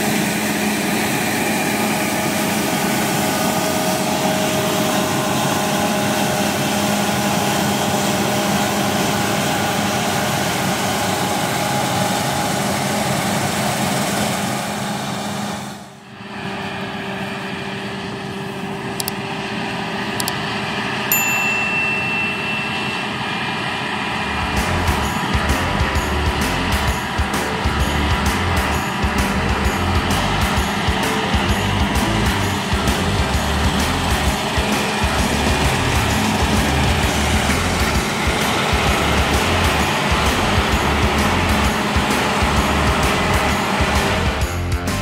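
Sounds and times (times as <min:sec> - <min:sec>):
combine harvester running: 0:00.0 - 0:45.0.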